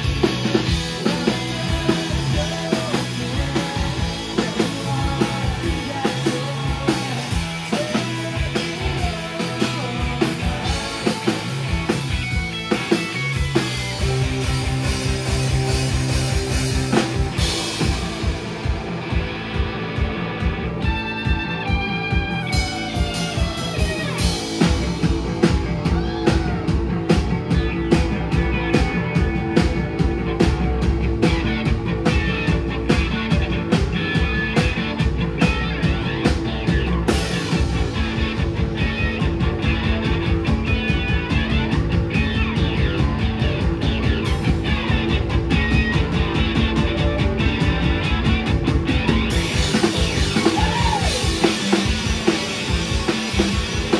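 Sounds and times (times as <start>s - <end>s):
falling guitar line: 0.0s - 53.9s
rock band playing live: 0.0s - 53.9s.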